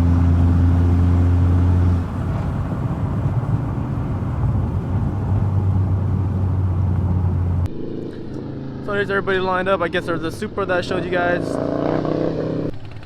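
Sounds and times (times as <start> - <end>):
car engine drone: 0.0 - 13.0
tyre and road noise: 0.0 - 13.0.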